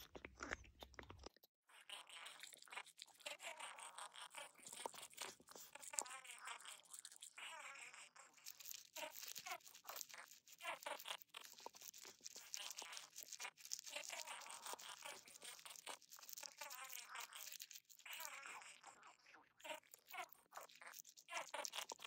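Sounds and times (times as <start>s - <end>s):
wet crunching and squelching: 0.0s - 22.0s.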